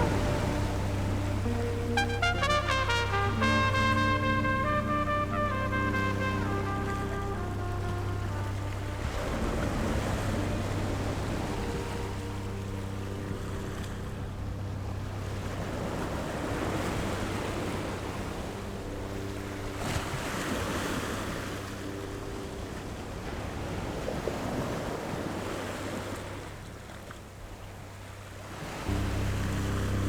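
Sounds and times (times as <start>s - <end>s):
steady low hum: 0.0s - 23.2s, 28.8s - 30.0s
soft sustained background tones: 0.0s - 24.2s, 28.8s - 30.0s
waves rushing: 0.0s - 30.0s.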